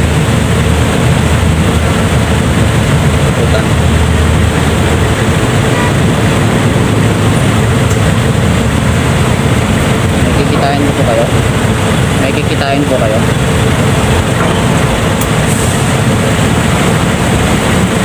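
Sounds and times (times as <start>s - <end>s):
motorcycle engine running: 0.0s - 18.0s
road noise: 0.0s - 18.0s
wind buffeting microphone: 0.0s - 18.0s.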